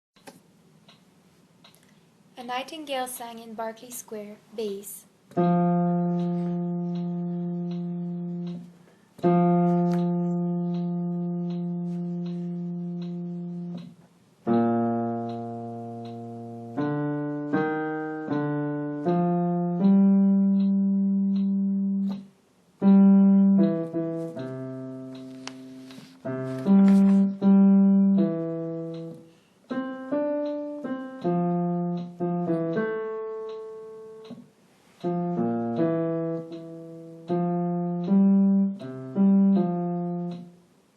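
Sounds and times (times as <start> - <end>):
piano playing low notes: 5.3 - 40.7.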